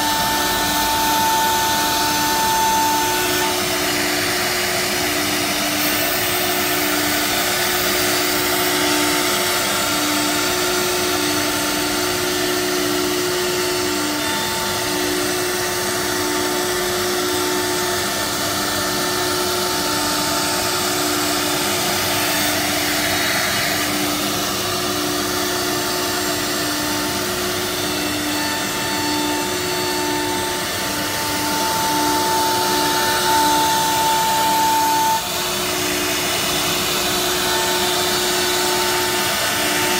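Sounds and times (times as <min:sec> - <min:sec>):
cnc router cutting board: 0:00.0 - 0:39.9.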